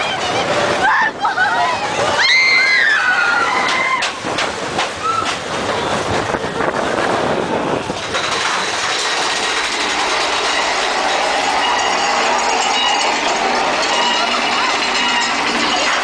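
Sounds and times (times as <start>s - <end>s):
roller coaster cars rattling on track: 0.0s - 16.0s.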